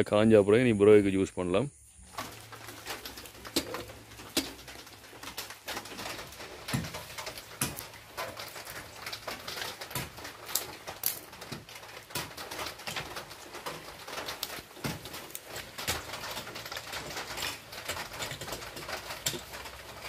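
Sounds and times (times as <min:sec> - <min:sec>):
bark quills crackling and clicking: 0:02.1 - 0:20.0.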